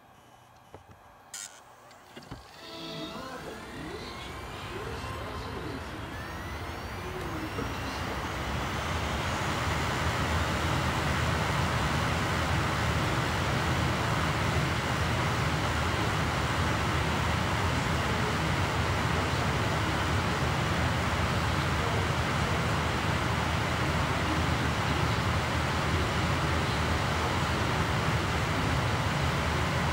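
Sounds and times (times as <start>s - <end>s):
optical drive spinning disc: 0.0s - 29.9s.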